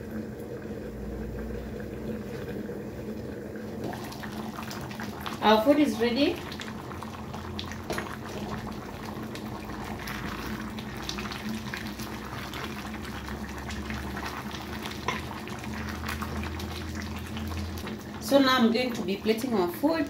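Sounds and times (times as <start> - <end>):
stew bubbling and popping: 0.0 - 19.5
low steady hum: 0.0 - 20.0.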